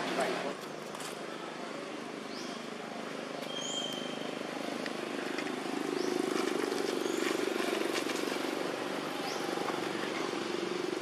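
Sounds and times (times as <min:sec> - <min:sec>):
engine running: 0:01.4 - 0:11.0.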